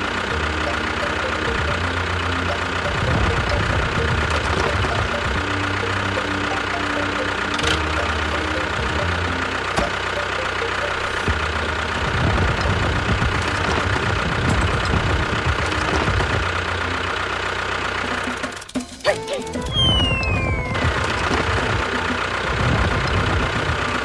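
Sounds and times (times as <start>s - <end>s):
small engine running: 0.0s - 24.0s
thin steady whine: 0.0s - 24.0s.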